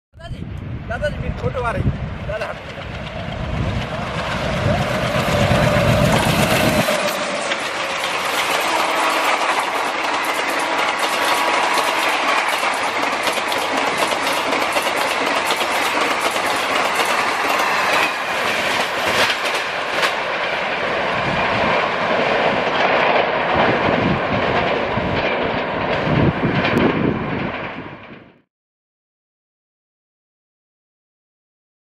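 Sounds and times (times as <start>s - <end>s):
train coaches passing at speed: 0.6s - 28.4s
wheels clattering over rail joints: 2.6s - 28.2s.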